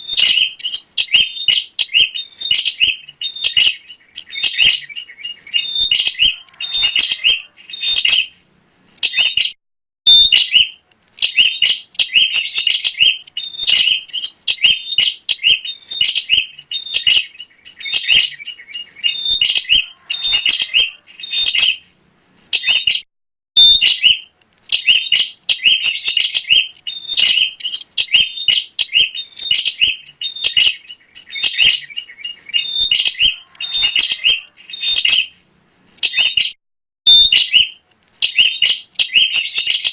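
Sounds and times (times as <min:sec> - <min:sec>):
bird chirping and trilling: 0:00.0 - 0:23.0, 0:23.6 - 0:39.9.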